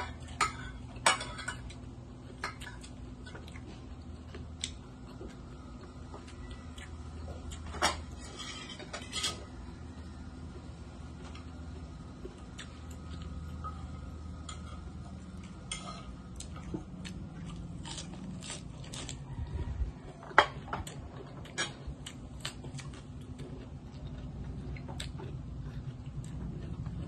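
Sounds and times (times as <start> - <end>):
chewing crunchy vegetables: 0.0 - 27.0
steady low hum: 0.0 - 27.0.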